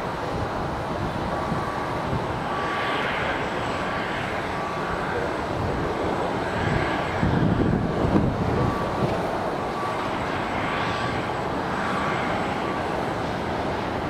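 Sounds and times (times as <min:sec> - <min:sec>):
distant jet engines: 0:00.0 - 0:14.0.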